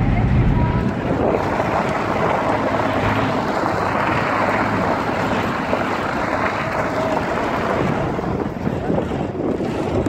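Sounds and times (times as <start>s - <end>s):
engine low hum: 0.0s - 10.0s
road and wind noise: 0.0s - 10.0s.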